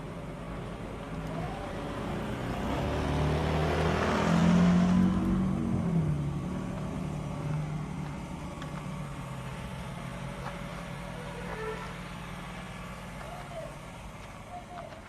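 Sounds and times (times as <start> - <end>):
street background noise: 0.0 - 15.0
vehicle engine hum: 0.0 - 15.0.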